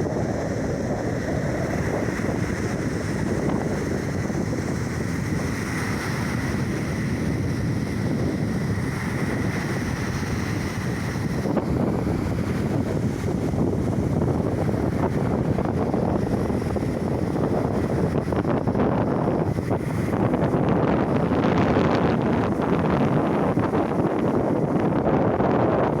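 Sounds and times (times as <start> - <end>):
waves and surf rushing: 0.0 - 26.0
wind buffeting microphone: 0.0 - 26.0.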